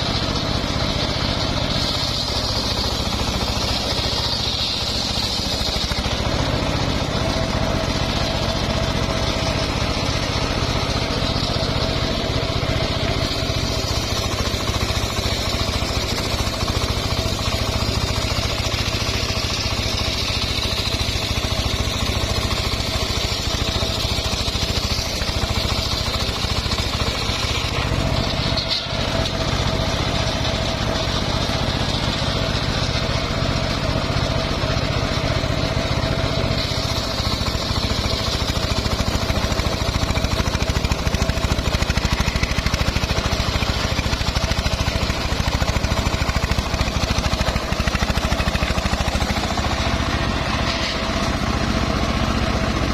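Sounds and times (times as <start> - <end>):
circular sawmill running: 0.0 - 52.9.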